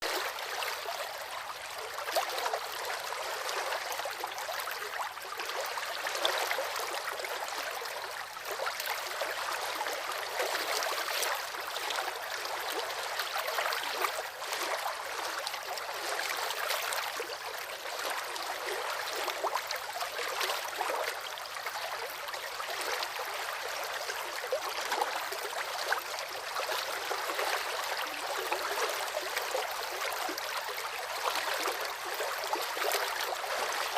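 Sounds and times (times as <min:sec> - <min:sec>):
river water flowing over rocks: 0:00.0 - 0:33.9.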